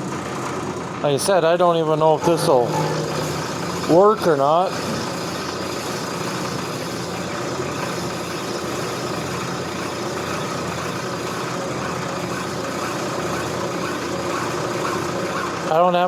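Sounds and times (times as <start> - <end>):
brake lathe humming and machining: 1.9 - 16.0.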